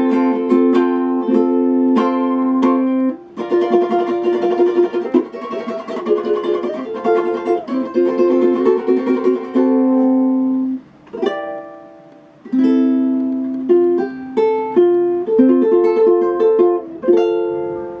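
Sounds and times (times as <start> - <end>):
acoustic plucked-string chords: 0.0 - 18.0.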